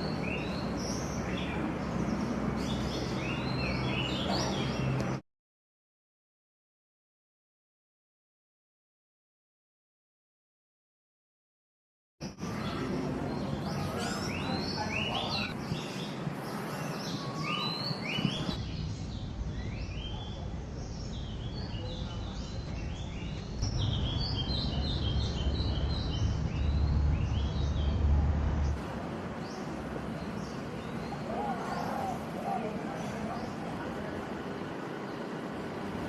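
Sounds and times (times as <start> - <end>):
small birds chirping and trilling: 0.0 - 5.2, 12.2 - 36.0.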